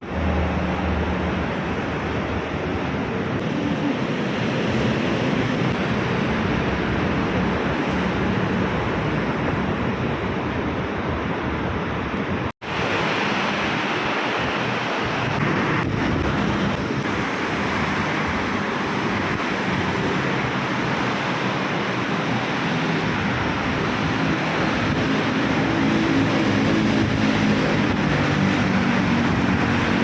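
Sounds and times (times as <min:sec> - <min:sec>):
monorail train running: 0:00.0 - 0:30.0.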